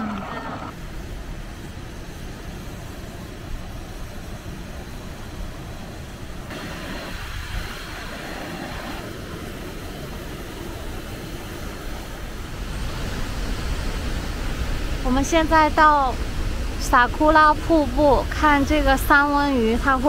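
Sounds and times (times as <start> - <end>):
steam hissing from fumaroles: 0.0 - 20.0.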